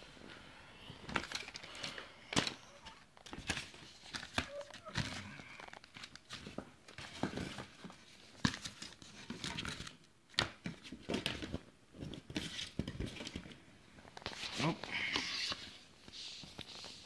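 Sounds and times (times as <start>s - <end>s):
rustling and crinkling handling noise: 0.0s - 17.0s.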